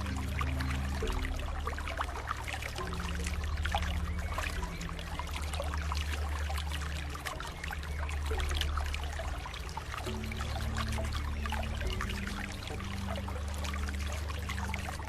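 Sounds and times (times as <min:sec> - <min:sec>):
soft low music notes: 0:00.0 - 0:15.0
water trickling and splashing: 0:00.0 - 0:15.0.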